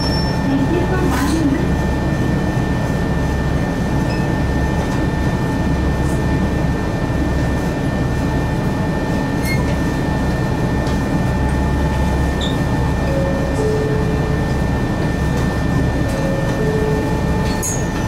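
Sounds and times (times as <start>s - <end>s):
railcar rumble and hum: 0.0s - 18.0s.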